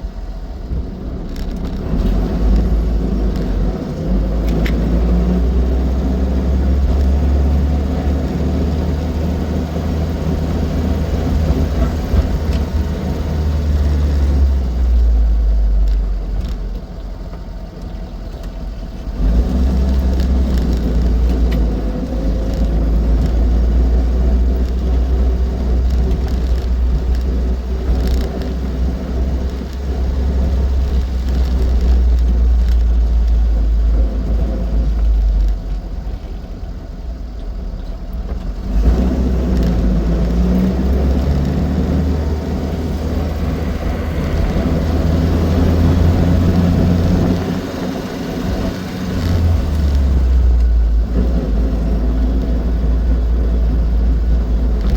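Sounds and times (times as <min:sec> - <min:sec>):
car engine rumbling while driving: 0:00.0 - 0:54.9.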